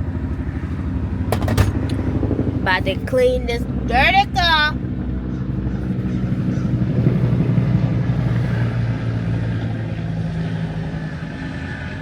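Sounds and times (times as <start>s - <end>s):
car engine running: 0.0s - 10.9s.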